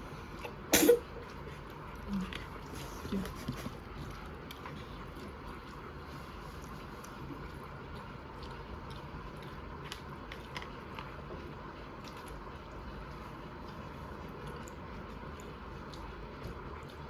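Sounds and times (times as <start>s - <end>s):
background hum: 0.0s - 17.0s
pet chewing food: 0.0s - 17.0s.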